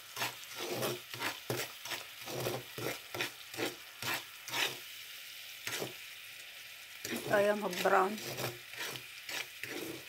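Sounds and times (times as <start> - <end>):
metal spoon scraping a pan: 0.0 - 5.0, 5.6 - 6.1, 7.0 - 10.0
melted sugar bubbling and sizzling: 0.0 - 10.0.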